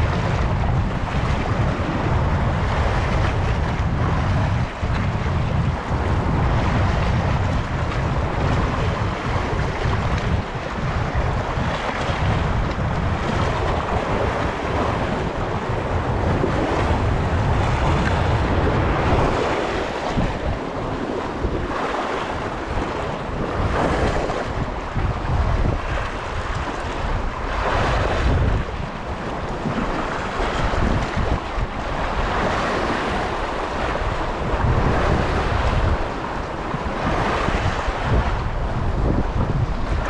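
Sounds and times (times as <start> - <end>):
sea waves splashing: 0.0 - 40.0
wind buffeting microphone: 0.0 - 40.0.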